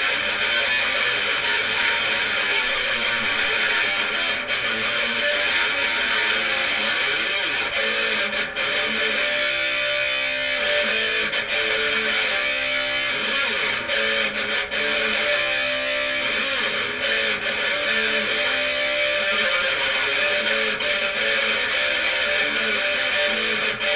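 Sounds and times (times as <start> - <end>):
electric guitar strummed chords: 0.0 - 23.9.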